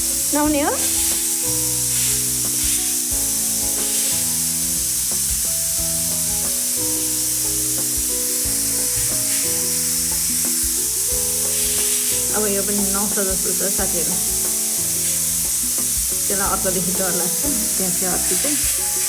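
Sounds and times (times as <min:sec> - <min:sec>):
melody of held notes: 0:00.0 - 0:19.0
steady high hiss: 0:00.0 - 0:19.0.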